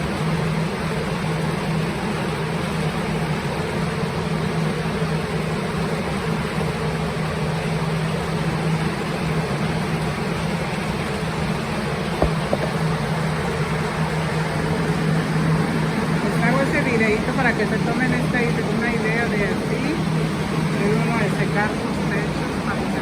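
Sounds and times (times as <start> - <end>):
drying fans blowing air: 0.0 - 23.0.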